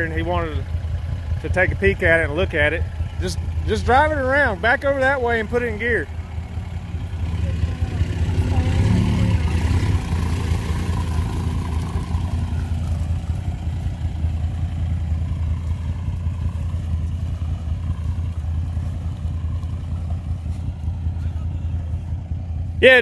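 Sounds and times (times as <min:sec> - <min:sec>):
diesel engine pulling away: 0:00.0 - 0:23.0.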